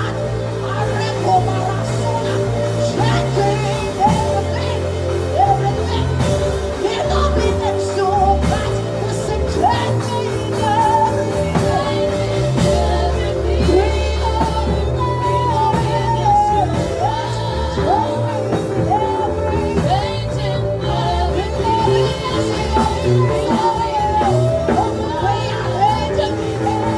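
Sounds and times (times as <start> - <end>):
worship band music with singing: 0.0 - 26.9.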